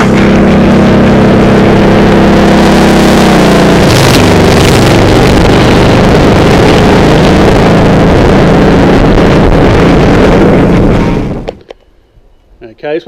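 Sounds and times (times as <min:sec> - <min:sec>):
wind rush on microphone: 0:00.0 - 0:11.6
motorcycle engine running: 0:00.0 - 0:11.8.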